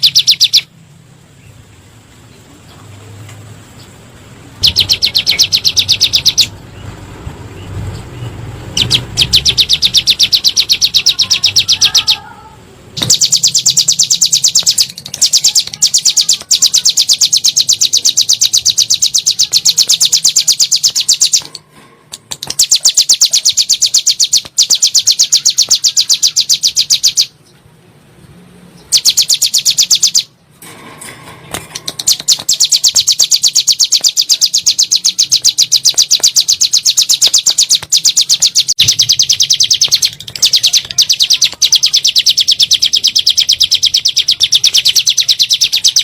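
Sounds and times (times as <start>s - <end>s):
bird singing rapid trill: 0.0s - 1.6s, 3.8s - 21.6s, 22.3s - 27.5s, 28.7s - 30.4s, 31.8s - 46.0s.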